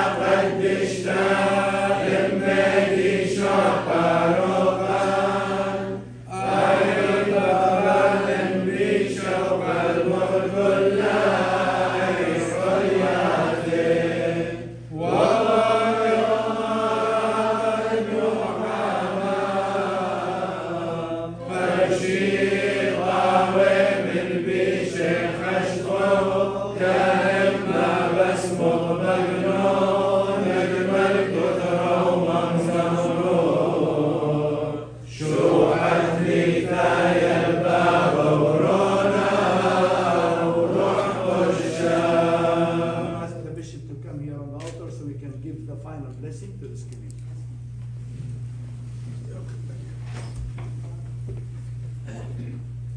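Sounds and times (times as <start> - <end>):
liturgical chant: 0.0 - 45.5.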